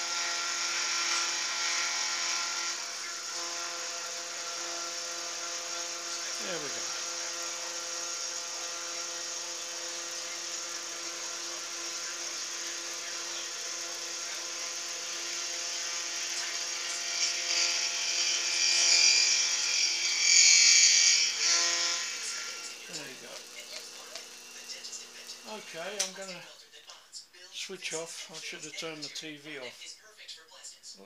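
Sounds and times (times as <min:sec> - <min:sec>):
cutter cutting metal: 0:00.0 - 0:26.5
milling machine motor whine: 0:00.0 - 0:26.5.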